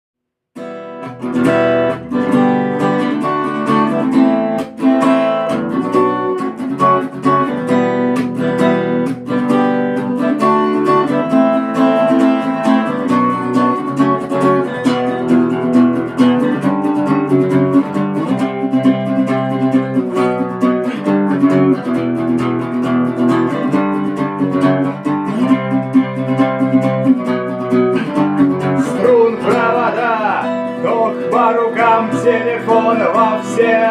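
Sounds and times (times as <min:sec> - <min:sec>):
guitar strumming: 0:00.6 - 0:33.9.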